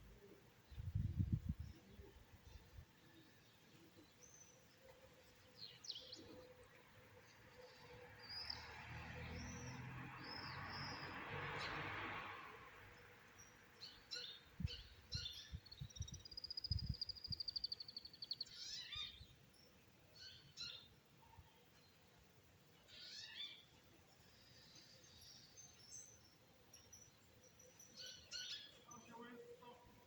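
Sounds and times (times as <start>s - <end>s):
small birds chirping: 0.0s - 11.8s, 13.0s - 29.8s.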